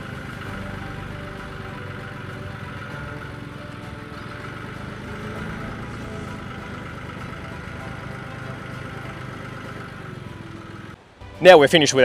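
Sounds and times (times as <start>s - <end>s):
tractor engine running: 0.0s - 11.1s.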